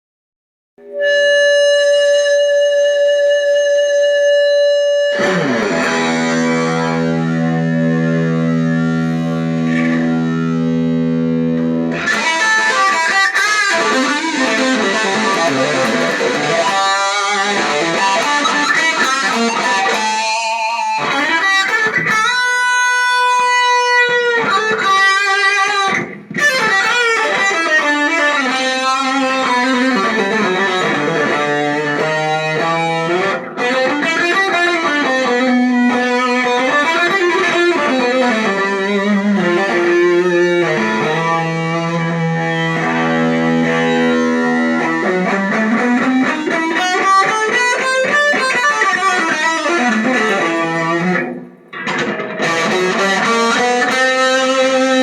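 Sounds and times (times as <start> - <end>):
electric guitar solo: 0.8 - 55.0.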